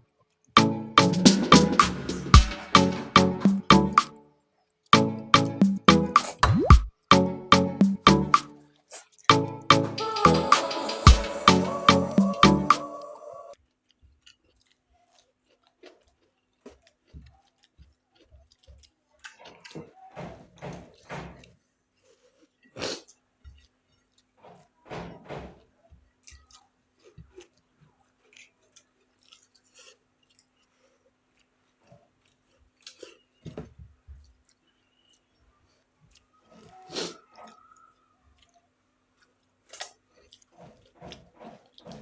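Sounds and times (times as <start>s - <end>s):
people chewing food: 8.1s - 42.0s.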